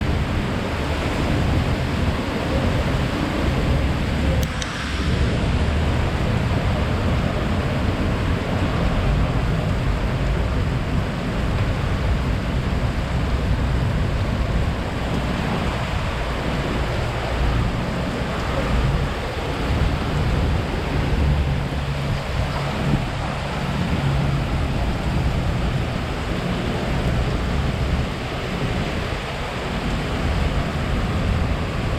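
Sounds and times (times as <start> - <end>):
strong wind blowing: 0.0 - 31.9
wind buffeting microphone: 0.0 - 31.9.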